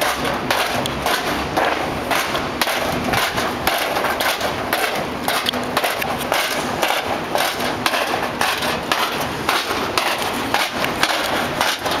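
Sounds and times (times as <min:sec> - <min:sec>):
street noise hiss: 0:00.0 - 0:12.0.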